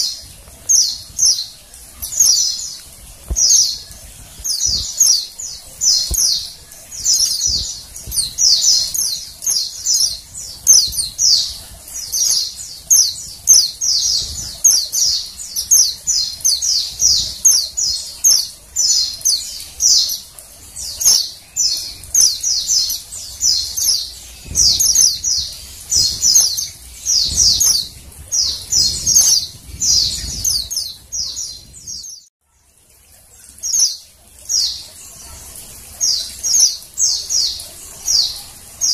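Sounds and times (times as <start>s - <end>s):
birds chirping rapidly: 0.0s - 32.3s.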